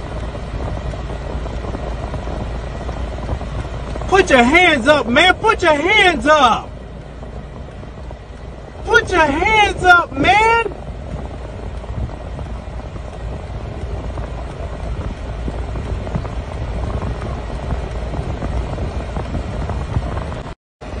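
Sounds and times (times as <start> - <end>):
vehicle rumble inside car: 0.0 - 21.0.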